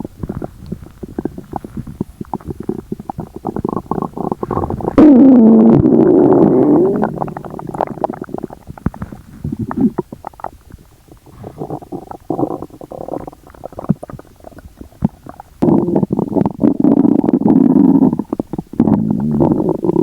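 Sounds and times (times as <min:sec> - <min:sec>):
stomach gurgling and rumbling: 0:00.0 - 0:20.0.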